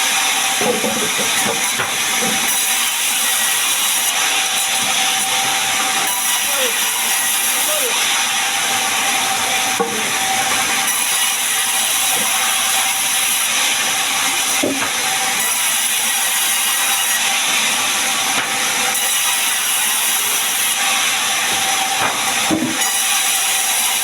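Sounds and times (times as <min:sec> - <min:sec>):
saw blade cutting log: 0:00.0 - 0:24.0.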